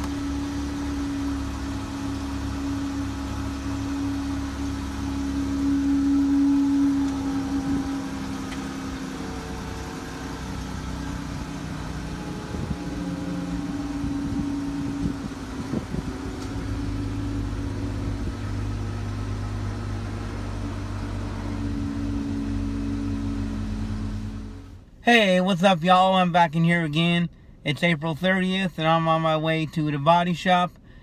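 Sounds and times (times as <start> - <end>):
deeper engine note: 0.0 - 25.6
car engine idling: 0.0 - 31.0.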